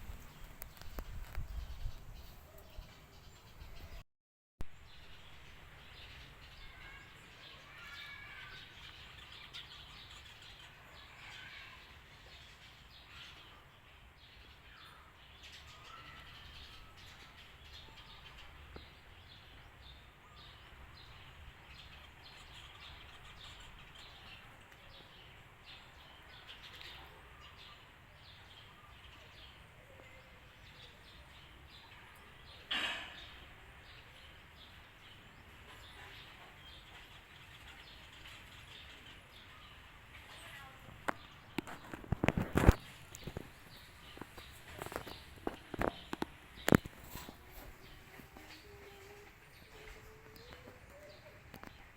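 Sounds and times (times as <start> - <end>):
small birds chirping: 0.0 - 4.0, 4.6 - 51.9.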